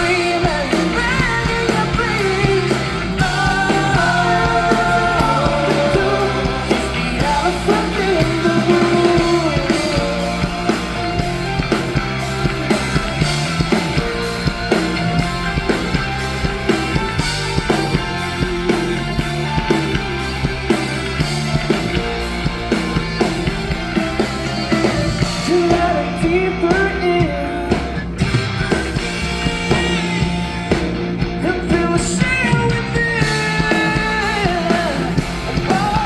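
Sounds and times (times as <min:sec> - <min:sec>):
rock band playing: 0:00.0 - 0:36.0
steady drum beat: 0:00.0 - 0:36.0.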